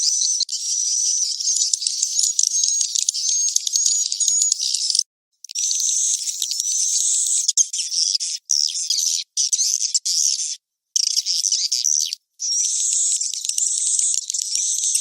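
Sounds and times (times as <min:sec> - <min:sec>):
swiftlet chittering and chirps: 0:00.0 - 0:15.0.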